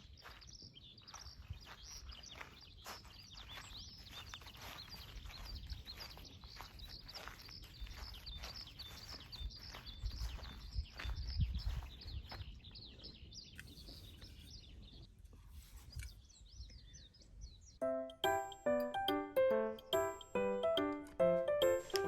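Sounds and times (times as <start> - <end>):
small birds chirping: 0.0 - 15.1, 15.7 - 22.0.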